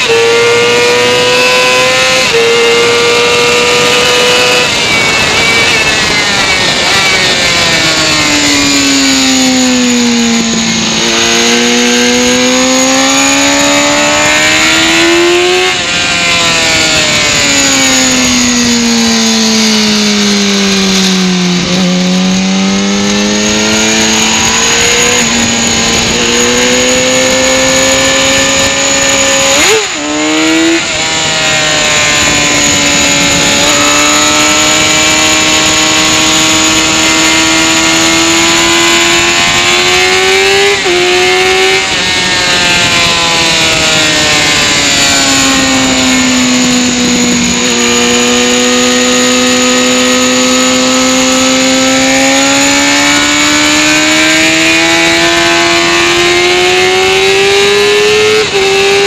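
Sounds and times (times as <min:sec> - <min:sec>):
motorcycle engine revving: 0:00.0 - 0:59.0
wind rush: 0:03.5 - 0:51.4.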